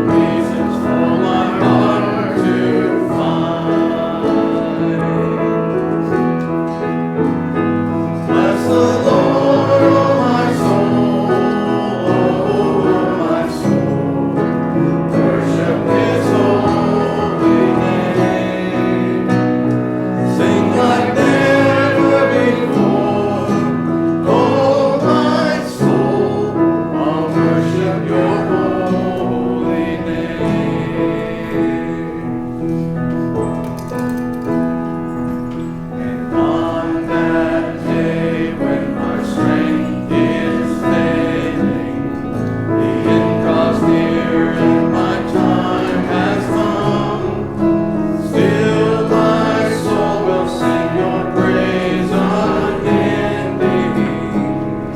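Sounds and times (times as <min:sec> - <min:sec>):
choir singing a hymn: 0:00.0 - 0:54.9
instrumental accompaniment: 0:00.0 - 0:54.9.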